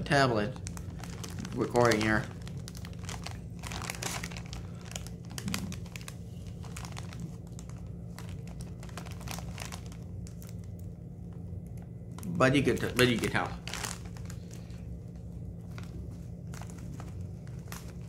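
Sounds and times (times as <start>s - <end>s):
plastic snack bag crinkling: 0.0s - 18.0s.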